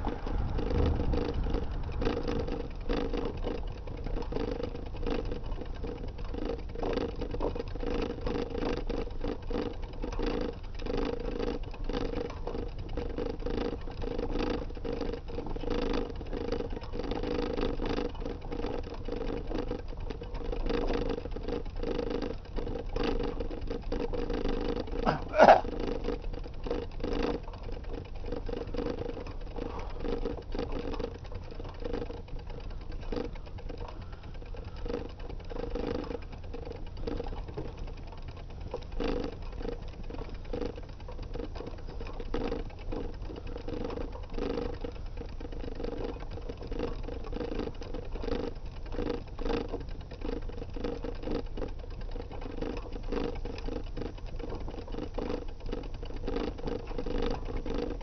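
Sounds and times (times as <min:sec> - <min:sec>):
bicycle rolling on road: 0:00.0 - 0:58.0.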